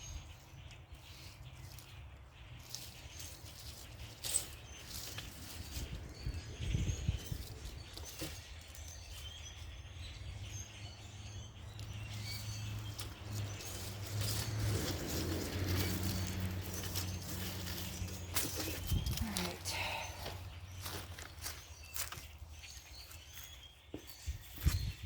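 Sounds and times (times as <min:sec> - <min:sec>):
small birds chirping faintly: 0:00.0 - 0:25.0.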